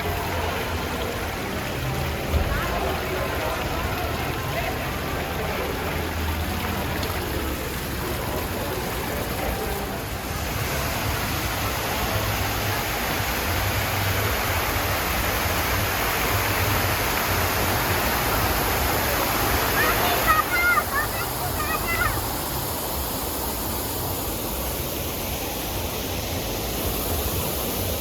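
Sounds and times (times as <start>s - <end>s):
spraying water rushing: 0.0s - 28.0s.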